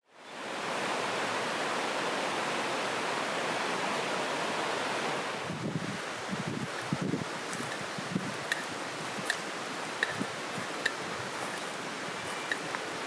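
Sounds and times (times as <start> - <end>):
river water rushing: 0.2 - 13.0.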